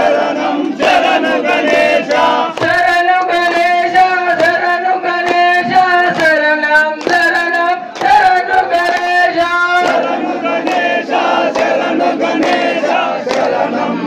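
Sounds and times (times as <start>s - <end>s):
crowd singing: 0.0s - 14.0s
man singing through loudspeaker: 0.0s - 14.0s
hands clapping in time: 0.6s - 13.9s.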